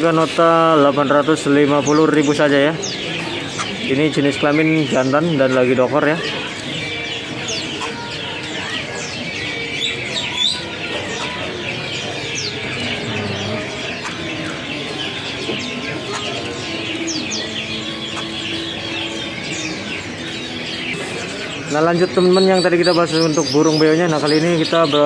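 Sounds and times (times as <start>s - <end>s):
songbirds chirping and whistling: 0.0s - 25.0s.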